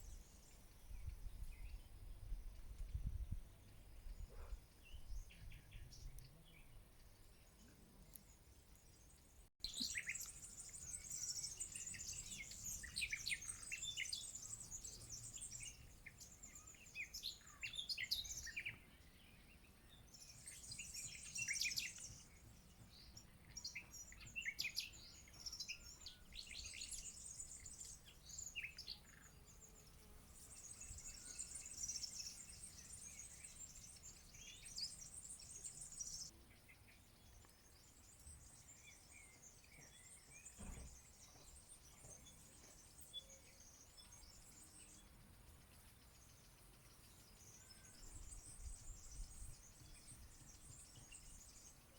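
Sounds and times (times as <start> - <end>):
songbirds twittering and trilling: 0.0 - 51.9.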